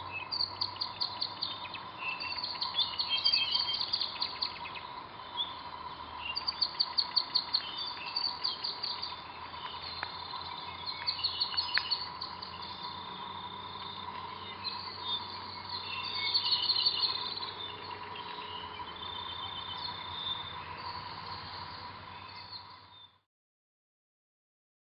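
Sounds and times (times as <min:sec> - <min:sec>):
songbirds chirping and trilling: 0:00.0 - 0:23.2.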